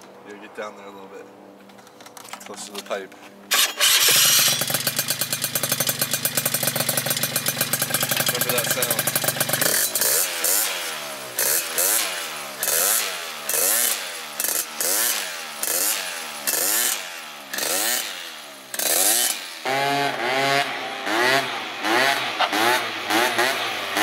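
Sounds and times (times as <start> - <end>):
scooter engine revving: 3.5 - 24.0.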